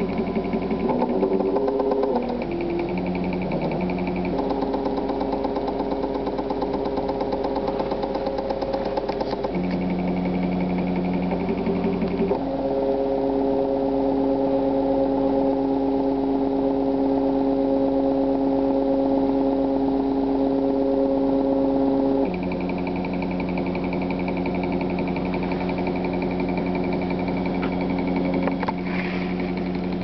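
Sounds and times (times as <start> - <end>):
stepper motors whining: 0.0 - 30.0.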